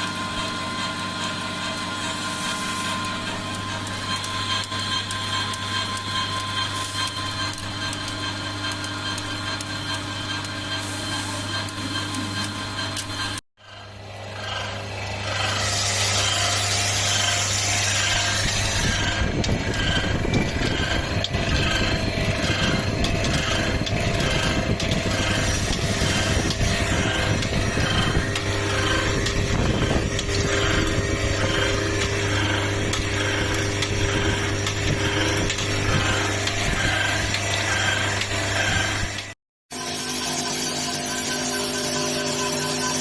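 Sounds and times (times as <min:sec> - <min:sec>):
steady motor hum: 0:00.0 - 0:43.0.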